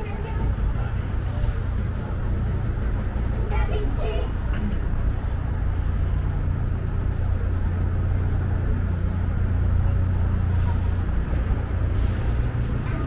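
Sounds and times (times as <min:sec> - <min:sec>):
heavy vehicle engine rumbling: 0:00.0 - 0:13.0
street traffic: 0:00.0 - 0:13.0.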